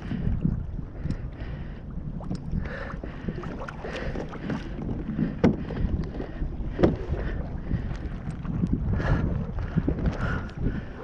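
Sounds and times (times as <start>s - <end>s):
water moving around kayak hull: 0.0s - 11.0s
wind buffeting microphone: 0.0s - 11.0s.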